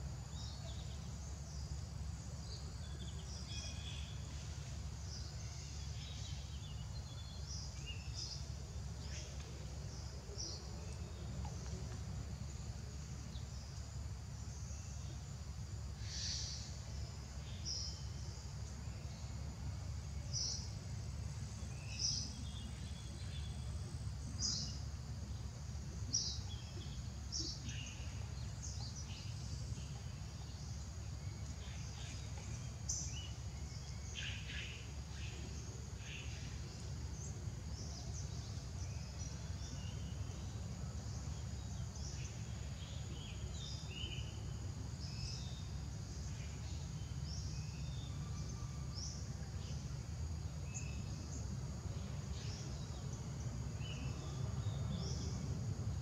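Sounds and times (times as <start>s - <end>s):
high insect drone: 0.0s - 56.0s
low steady rumble: 0.0s - 56.0s.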